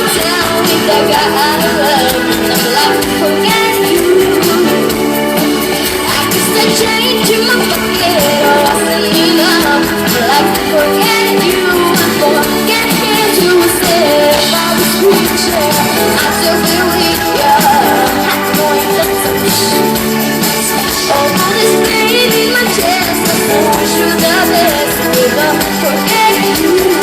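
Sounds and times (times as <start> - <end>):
live pop band playing: 0.0 - 27.0.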